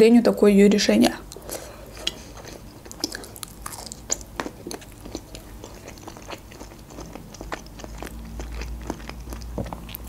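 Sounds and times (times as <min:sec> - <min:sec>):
chewing food: 0:01.3 - 0:10.0.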